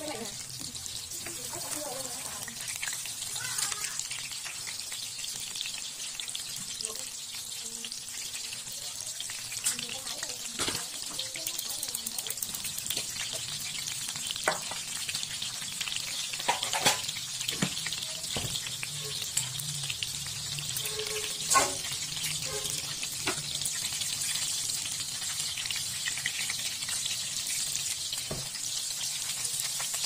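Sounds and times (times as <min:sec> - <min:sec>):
spring rolls sizzling in oil: 0:00.0 - 0:30.0.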